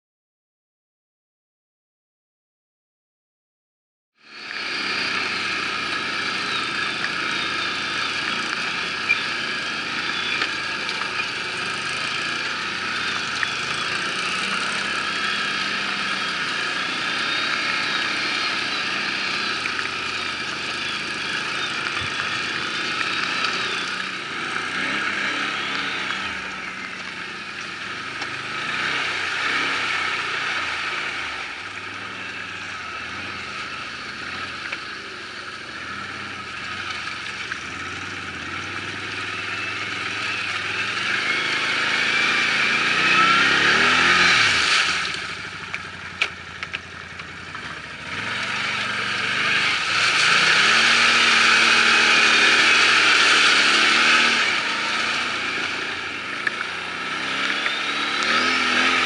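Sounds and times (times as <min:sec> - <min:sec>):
atv engine revving: 0:04.2 - 0:59.0.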